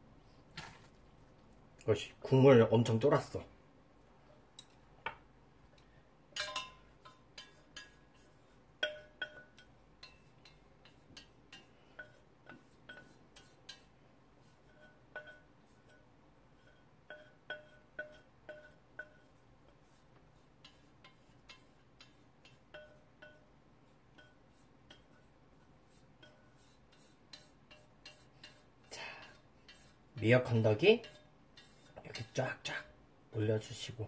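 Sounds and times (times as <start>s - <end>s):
chopsticks tapping steel pot: 4.5s - 33.0s.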